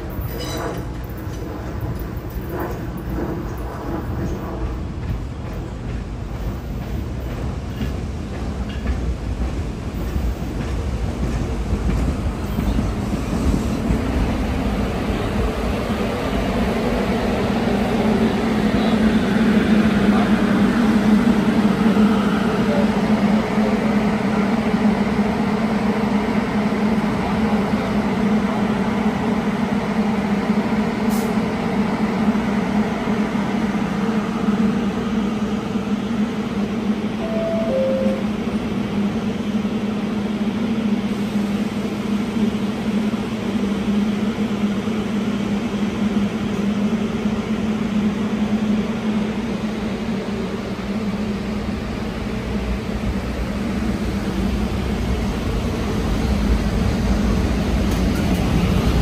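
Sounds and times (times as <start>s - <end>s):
standing train drone: 0.0s - 59.0s
subway train rolling to a stop: 0.0s - 59.0s.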